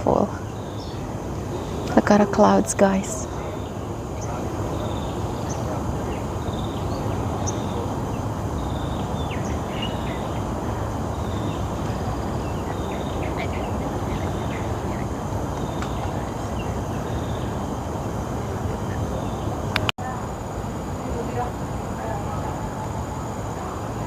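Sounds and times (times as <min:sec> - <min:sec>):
birds chirping: 0:00.0 - 0:19.9
low outdoor rumble: 0:00.0 - 0:24.0.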